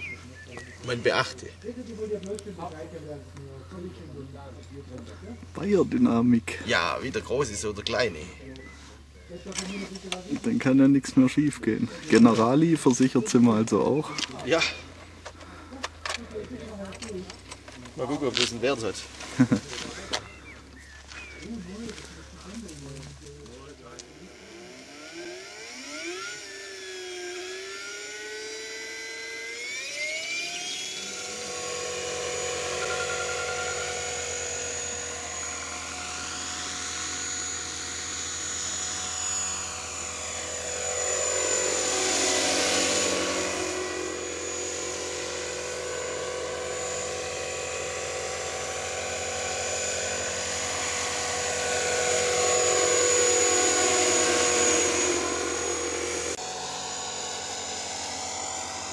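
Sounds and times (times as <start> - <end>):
model helicopter motor whine: 0.0 - 58.9
rotor hum: 0.0 - 58.9.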